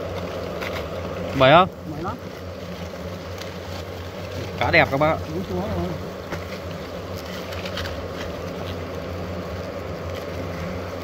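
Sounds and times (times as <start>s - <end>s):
hornets buzzing: 0.0s - 11.0s
papery combs crackling: 0.0s - 11.0s.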